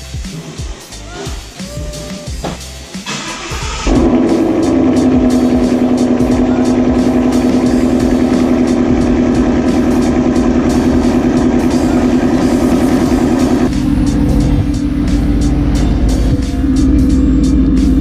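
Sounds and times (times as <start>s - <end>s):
background music: 0.0s - 18.0s
car engine idling: 0.0s - 18.0s.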